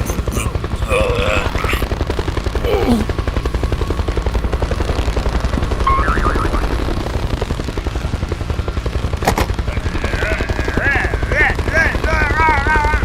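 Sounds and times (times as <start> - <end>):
vehicle engine chugging: 0.0 - 13.0.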